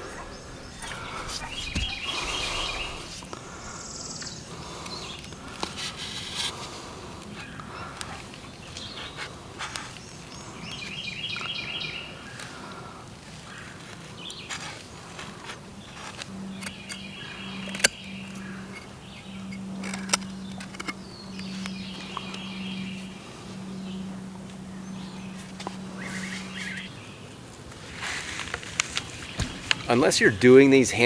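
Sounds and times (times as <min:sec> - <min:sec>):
birds chirping: 0:00.0 - 0:31.0
steady low hum: 0:00.0 - 0:31.0.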